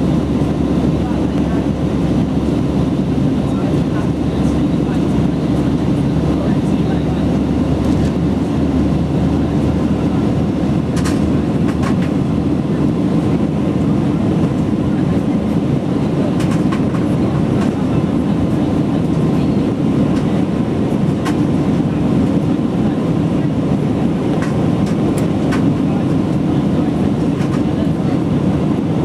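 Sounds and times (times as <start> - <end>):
jet engines roaring in cabin: 0.0 - 29.0.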